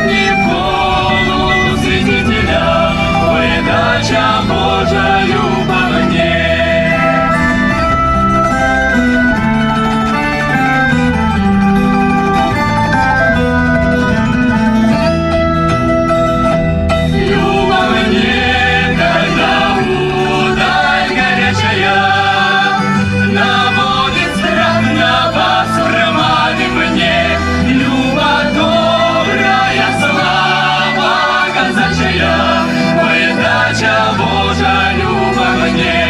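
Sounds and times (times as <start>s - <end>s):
choir singing folk song: 0.0s - 15.0s, 16.3s - 36.0s
instrumental accompaniment with bass: 0.0s - 36.0s.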